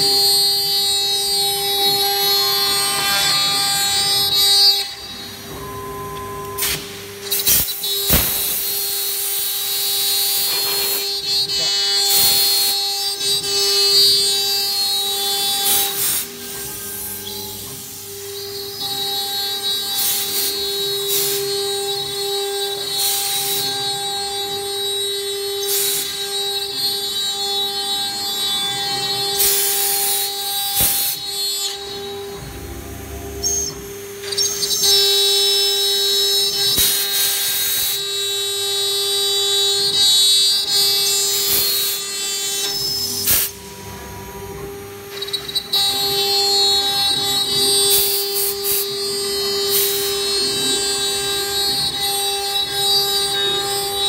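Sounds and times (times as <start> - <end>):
router spindle high whine: 0.0 - 54.0.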